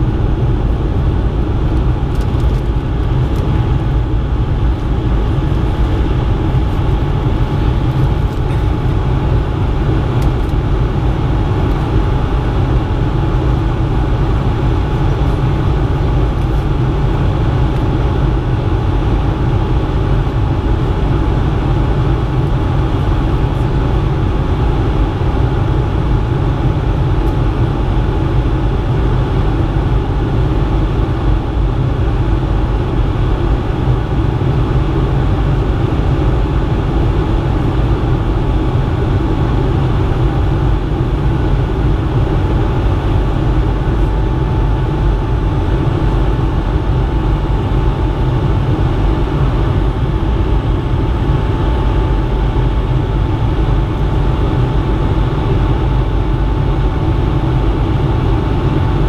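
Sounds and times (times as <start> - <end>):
airliner cabin engine roar: 0.0 - 59.0
faint steady whine: 0.0 - 59.0.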